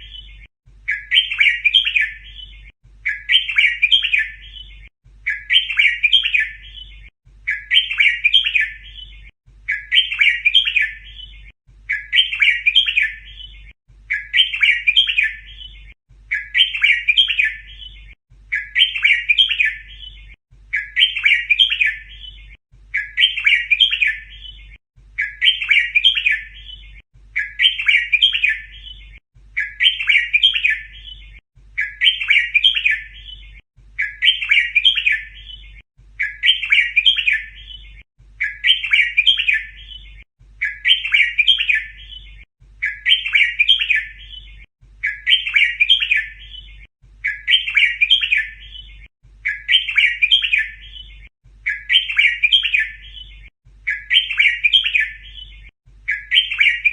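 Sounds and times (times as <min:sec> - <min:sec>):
bulbul song: 0:00.0 - 0:56.9.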